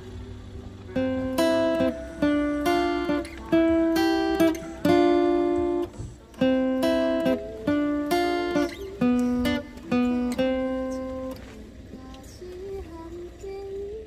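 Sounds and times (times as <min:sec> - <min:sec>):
acoustic guitar strumming chords: 0:00.0 - 0:13.6.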